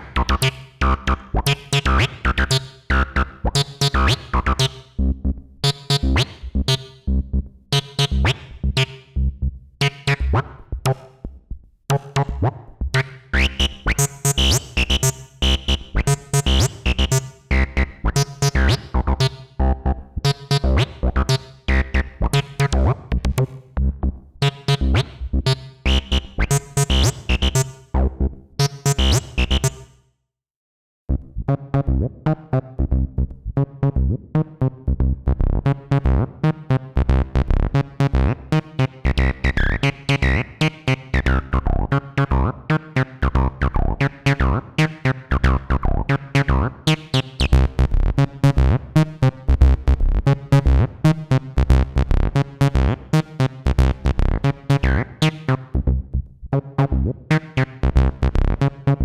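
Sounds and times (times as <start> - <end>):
squelchy acid synth bassline: 0.0 - 11.1, 11.9 - 29.8, 35.0 - 56.0, 56.8 - 59.0.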